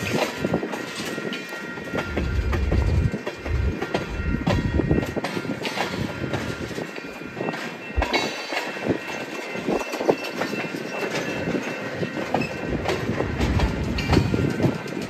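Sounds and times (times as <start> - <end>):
train rumble: 0.0 - 15.0
train wheels clacking on rail joints: 0.0 - 15.0.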